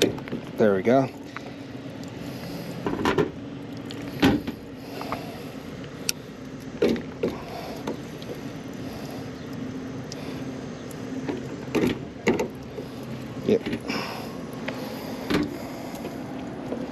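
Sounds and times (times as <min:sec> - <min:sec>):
air conditioning hum: 0:00.0 - 0:16.9.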